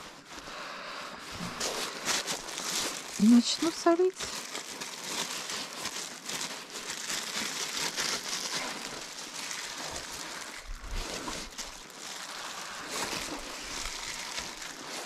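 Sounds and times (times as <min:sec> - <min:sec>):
rustling and crinkling of pads: 0:00.0 - 0:15.0.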